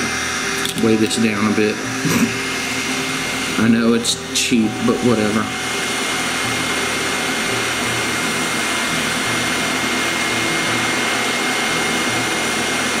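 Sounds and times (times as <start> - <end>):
faint high whine: 0.0 - 13.0
hot air blower hissing: 0.0 - 13.0.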